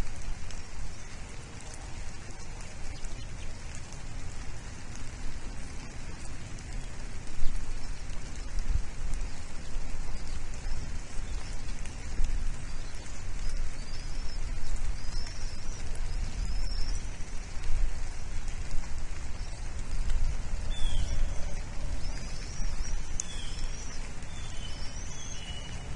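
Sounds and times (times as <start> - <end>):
low rumble on microphone: 0.0 - 25.9
rushing outdoor noise: 0.0 - 25.9.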